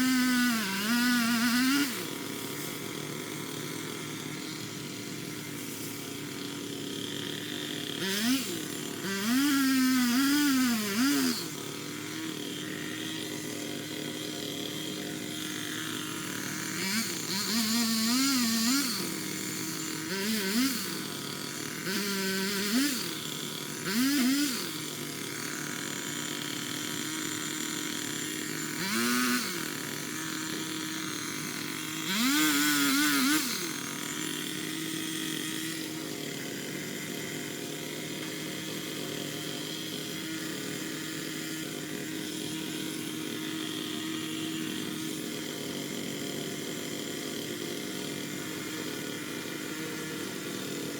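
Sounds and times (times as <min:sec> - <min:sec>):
pole saw engine revving: 0:00.0 - 0:50.9.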